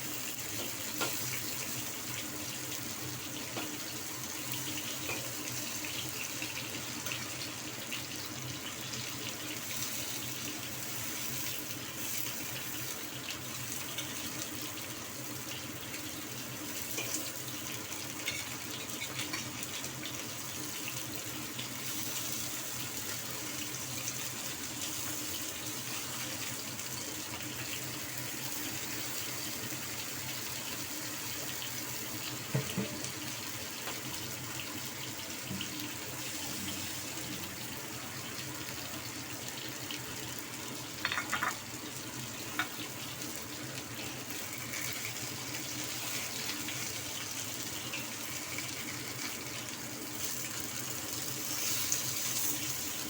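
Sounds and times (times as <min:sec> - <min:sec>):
hot oil sizzling in a wok: 0:00.0 - 0:53.0.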